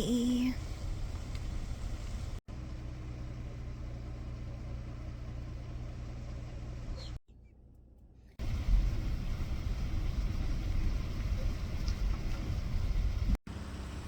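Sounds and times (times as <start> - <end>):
van engine humming: 0.0 - 14.0.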